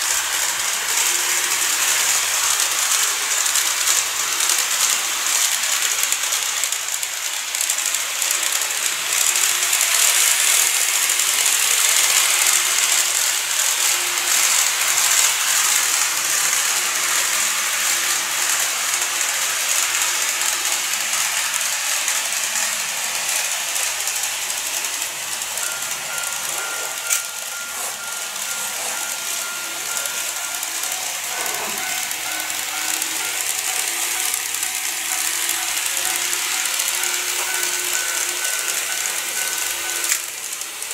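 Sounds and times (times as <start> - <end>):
model train running on track: 0.0 - 40.9.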